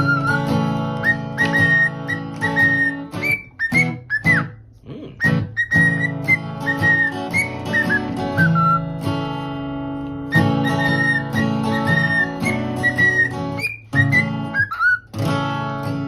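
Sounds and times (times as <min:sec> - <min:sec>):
parrot whistling a tune: 0:00.0 - 0:09.0, 0:10.2 - 0:15.2
acoustic guitar music: 0:00.0 - 0:16.0.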